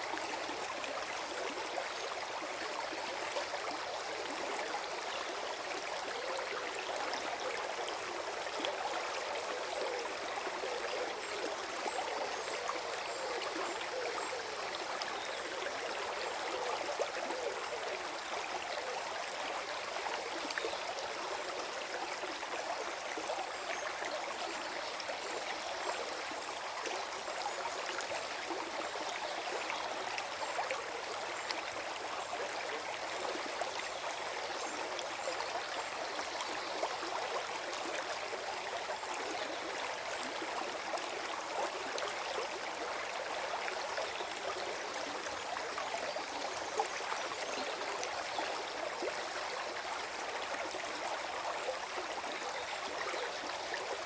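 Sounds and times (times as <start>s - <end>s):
stream gurgling over stones: 0.0s - 54.0s.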